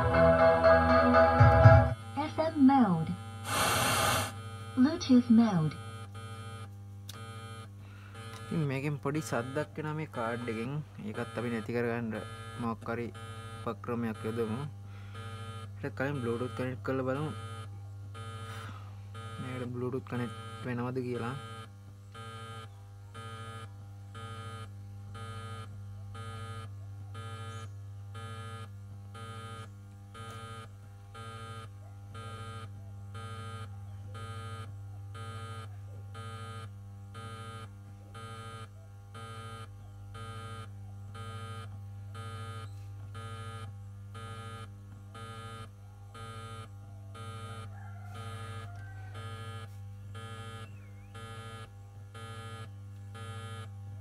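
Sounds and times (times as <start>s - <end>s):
pulsing electrical buzz: 0.0s - 54.0s
speaker low hum: 0.0s - 54.0s.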